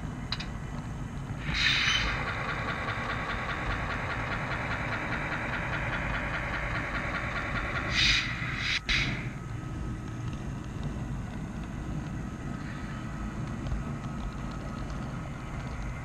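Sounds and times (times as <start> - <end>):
model locomotive engine: 0.0 - 16.0.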